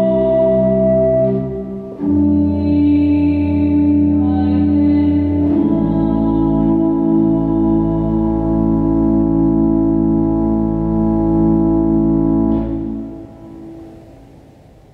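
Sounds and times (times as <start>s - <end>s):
church organ sustained chord: 0.0s - 14.6s.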